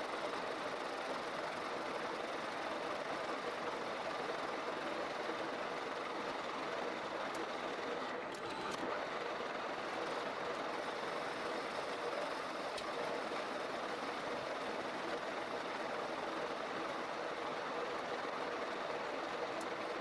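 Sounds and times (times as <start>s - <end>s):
spindle drive hum: 0.0s - 20.0s.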